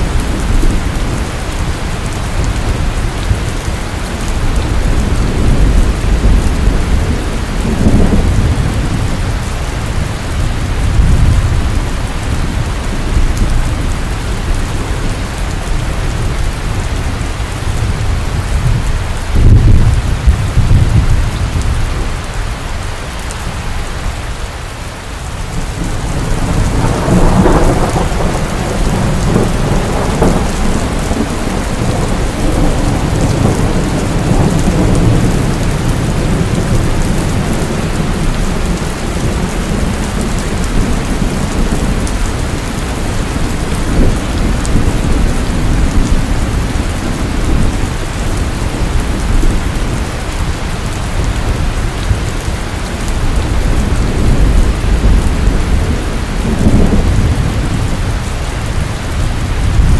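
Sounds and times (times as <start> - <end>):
thunder rolling: 0.0 - 15.1, 15.7 - 22.1, 25.5 - 59.9
heavy rain falling: 0.0 - 59.9.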